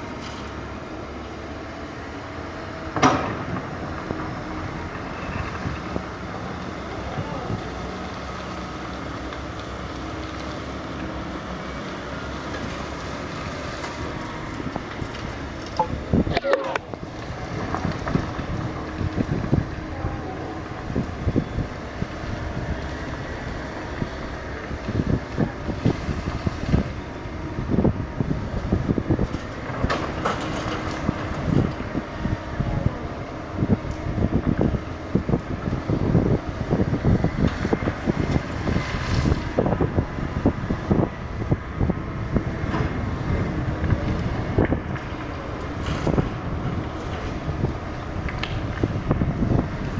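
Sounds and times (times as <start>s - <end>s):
excavator diesel engine running: 0.0s - 49.9s
wind noise on microphone: 2.5s - 9.1s, 11.1s - 49.9s.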